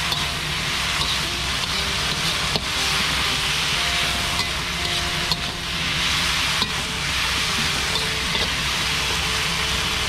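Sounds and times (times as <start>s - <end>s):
flowers sizzling in a wok: 0.0s - 10.0s
metal spatula scraping a pan: 0.0s - 10.0s.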